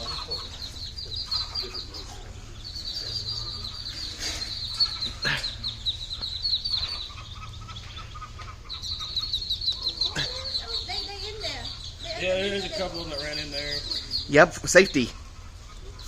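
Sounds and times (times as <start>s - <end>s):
ducklings peeping: 0.0s - 16.0s.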